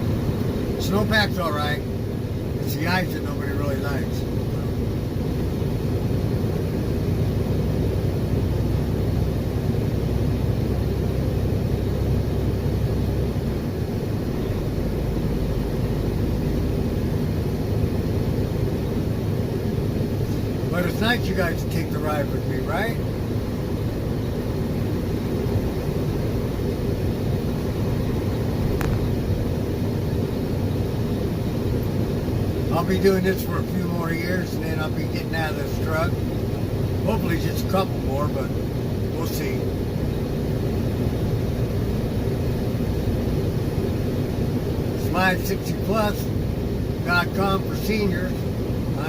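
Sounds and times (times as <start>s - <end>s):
road noise: 0.0s - 49.0s
truck engine rumble: 0.0s - 49.0s.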